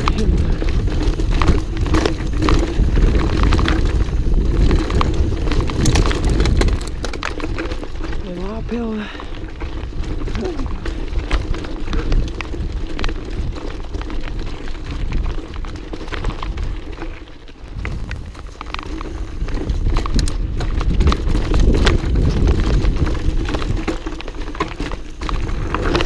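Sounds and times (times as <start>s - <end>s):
bike chain rattling and clicking: 0.0s - 26.0s
bike tyres rolling over dirt: 0.0s - 26.0s
wind buffeting microphone: 0.0s - 26.0s.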